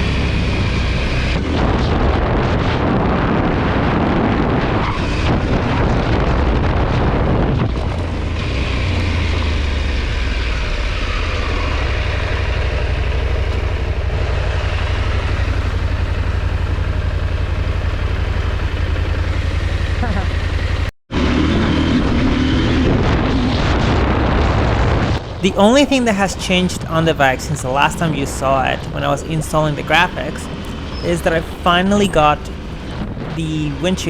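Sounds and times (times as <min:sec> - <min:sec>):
motorcycle engine running: 0:00.0 - 0:22.9, 0:25.2 - 0:34.0
wind and road noise: 0:00.0 - 0:34.0.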